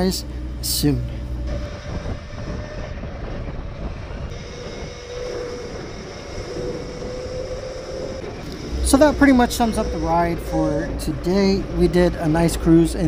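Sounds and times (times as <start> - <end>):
electric motor whine: 0.0 - 12.8
wind buffeting: 0.0 - 13.0.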